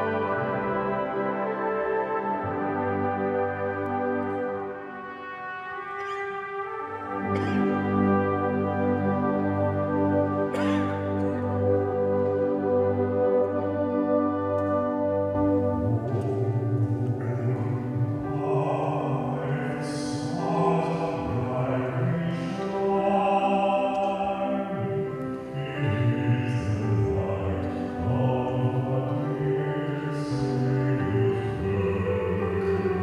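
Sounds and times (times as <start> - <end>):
choir singing sustained notes: 0.0 - 33.0.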